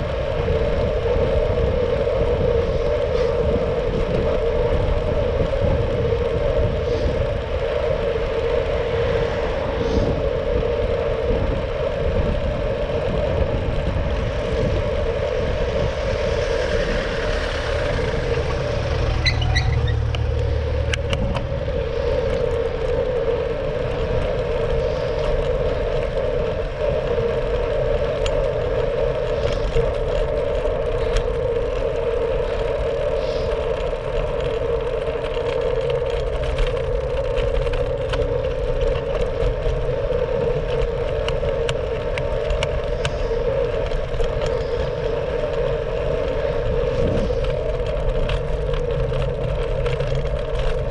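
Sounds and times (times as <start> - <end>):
bike rattles and clicks: 0.0 - 50.9
bike tyre rumble: 0.0 - 50.9
wind rushing: 0.0 - 50.9.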